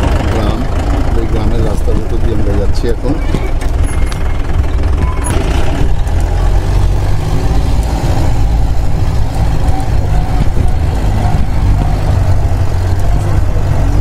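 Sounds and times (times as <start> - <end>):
engine and road rumble: 0.0 - 14.0
vehicle rattling: 0.0 - 14.0.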